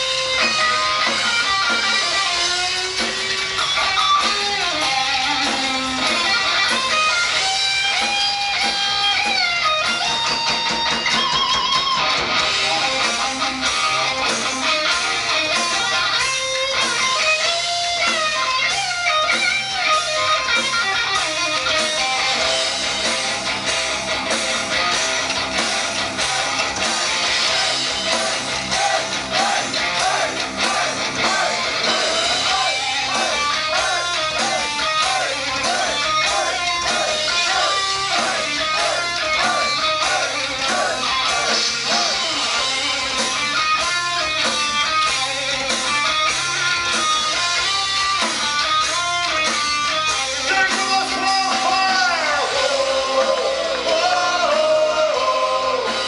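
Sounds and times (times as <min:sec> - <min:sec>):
guitar lead melody: 0:00.0 - 0:52.8
electric guitars strumming: 0:00.0 - 0:56.0
live band playing: 0:00.0 - 0:56.0.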